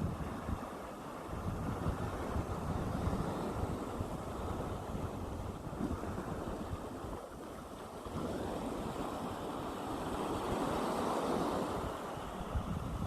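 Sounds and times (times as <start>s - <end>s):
sea waves washing onto shore: 0.0s - 13.0s
wind buffeting microphone: 0.0s - 13.0s.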